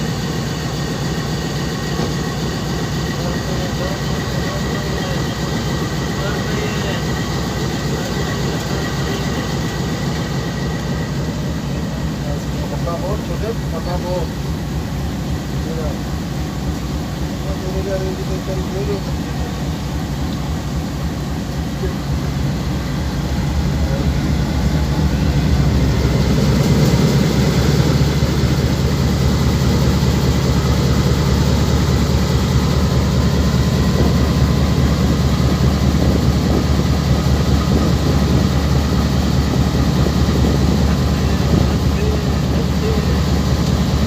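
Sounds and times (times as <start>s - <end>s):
train rumbling at speed: 0.0s - 44.0s.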